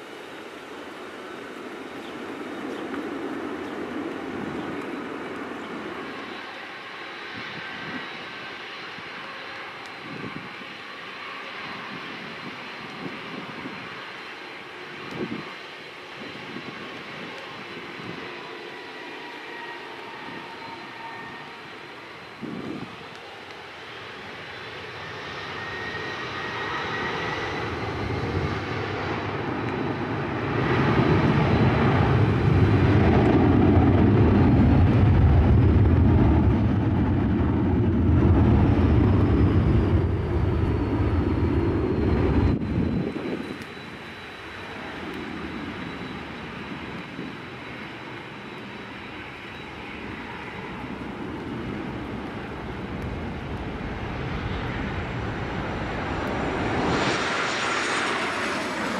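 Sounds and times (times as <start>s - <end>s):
jet engines spooling up: 0.0s - 58.9s
jet takeoff roar: 0.0s - 58.9s.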